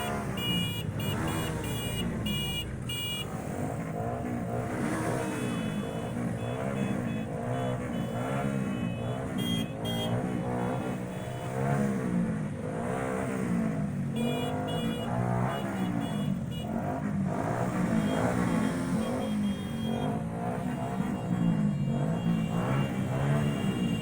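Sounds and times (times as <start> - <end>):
vehicle engines revving: 0.0 - 24.0.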